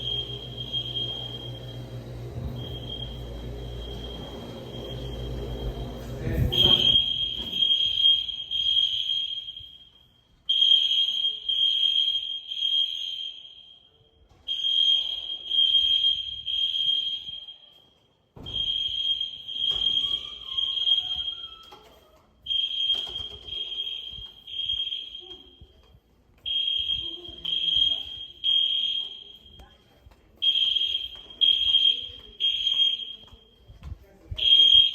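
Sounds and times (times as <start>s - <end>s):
fire alarm horns blasting: 0.0s - 25.8s, 26.4s - 29.8s, 30.4s - 33.7s, 34.4s - 34.9s.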